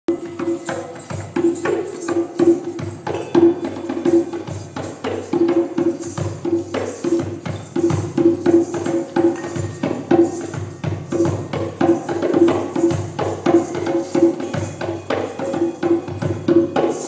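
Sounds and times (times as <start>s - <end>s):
quick percussion beat: 0.1s - 17.0s.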